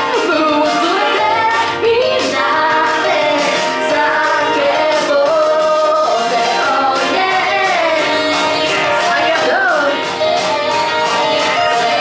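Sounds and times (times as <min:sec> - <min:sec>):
loud backing music: 0:00.0 - 0:12.0
woman singing pop song: 0:00.0 - 0:12.0.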